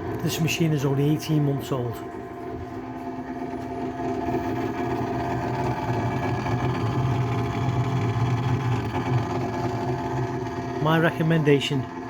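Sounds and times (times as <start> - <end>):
fridge fan rattling: 0.0 - 12.0.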